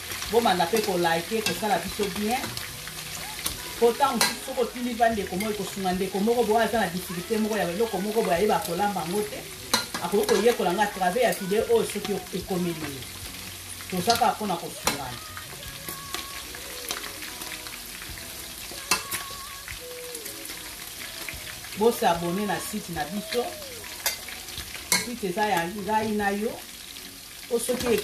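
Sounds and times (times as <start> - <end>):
chicken sizzling in a pan: 0.0 - 28.0.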